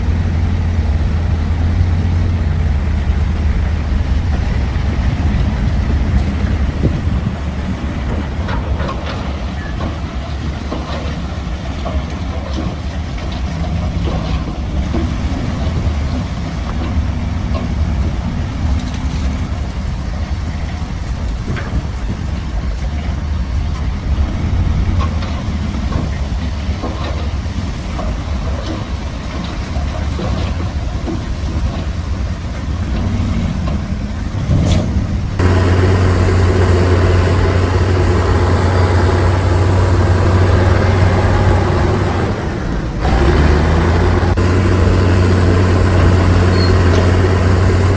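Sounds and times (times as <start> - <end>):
diesel engine low drone: 0.0 - 47.9.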